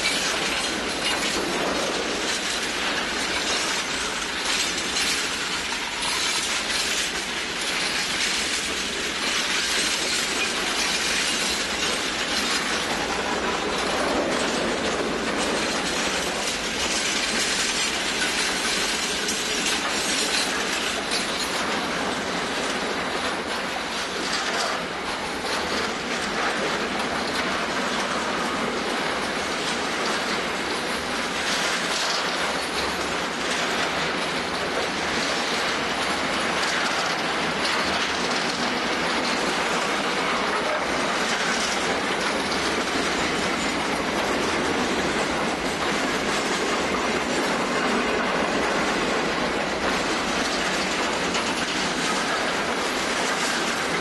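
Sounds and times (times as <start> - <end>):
freight train wagons rolling: 0.0 - 54.0
steel wheels clattering on rails: 0.0 - 54.0.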